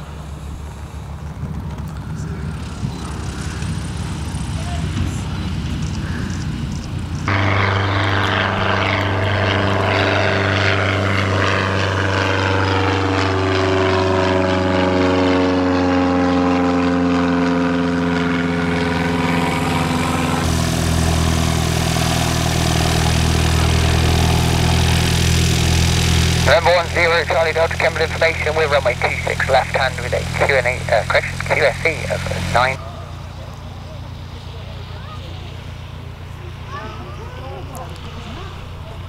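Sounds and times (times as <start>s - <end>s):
propeller engine running steadily: 0.0s - 39.0s
propeller plane engine passing: 0.0s - 39.0s.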